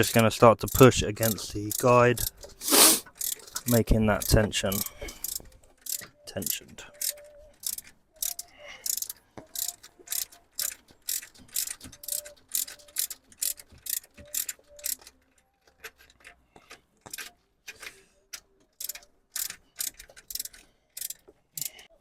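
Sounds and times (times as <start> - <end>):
socket ratchet clicking: 0.1 - 16.4, 17.0 - 21.9.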